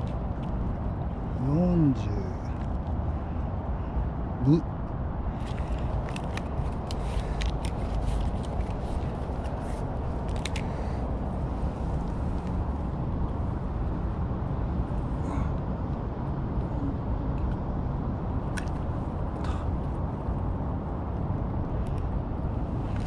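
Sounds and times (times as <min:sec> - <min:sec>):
low outdoor rumble: 0:00.0 - 0:23.0.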